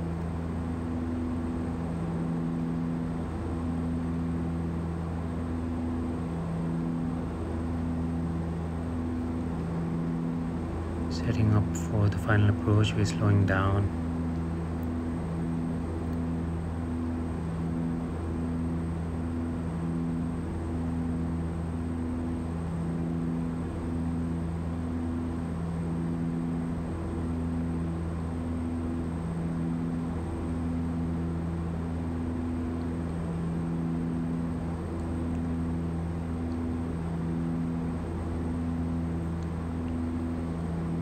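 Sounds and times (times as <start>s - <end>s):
turboprop engines droning: 0.0s - 41.0s.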